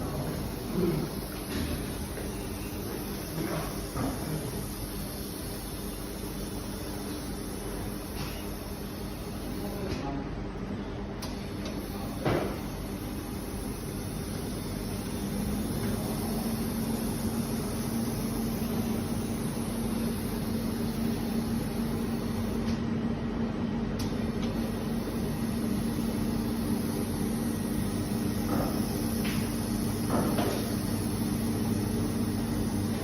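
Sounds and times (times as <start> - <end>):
welding machine humming: 0.0 - 10.0, 11.2 - 33.0.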